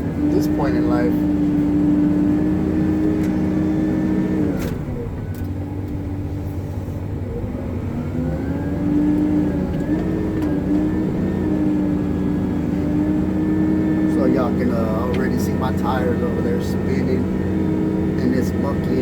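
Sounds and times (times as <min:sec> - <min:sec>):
loader diesel engine revving: 0:00.0 - 0:19.0.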